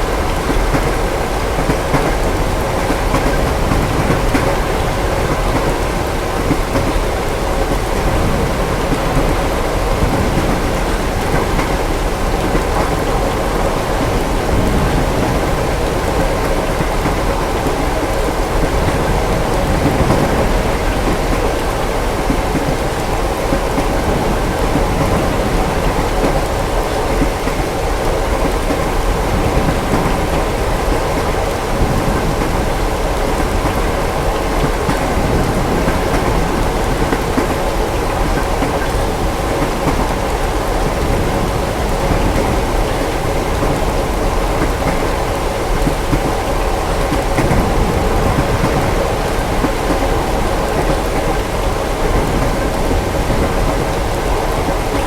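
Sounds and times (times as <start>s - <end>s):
heavy rain: 0.0s - 55.0s
moving train: 0.0s - 55.0s
thunder rumbling: 0.0s - 55.0s.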